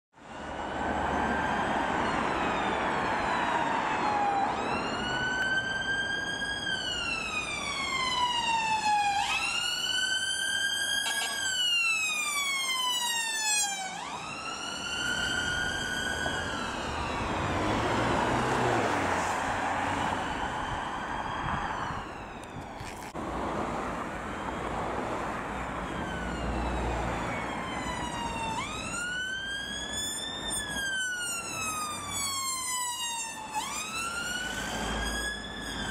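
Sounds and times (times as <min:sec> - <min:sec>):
emergency siren wailing: 0:00.2 - 0:35.9
road traffic noise: 0:00.2 - 0:35.9.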